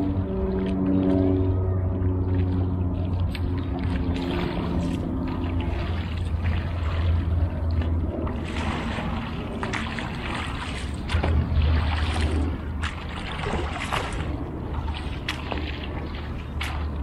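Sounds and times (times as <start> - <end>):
kayak paddle splashing in water: 0.0 - 17.0
wind rumble on microphone: 0.0 - 17.0.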